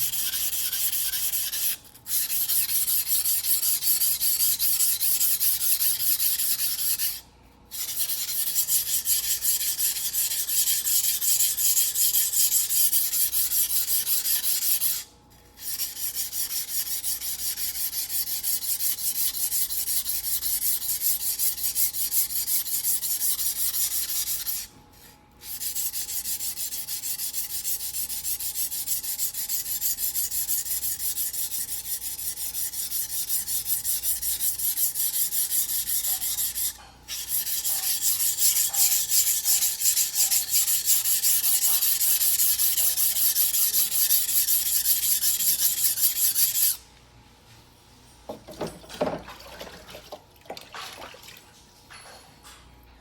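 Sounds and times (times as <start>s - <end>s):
knife sharpening on whetstone: 0.0s - 15.0s, 15.6s - 24.7s, 25.4s - 46.8s.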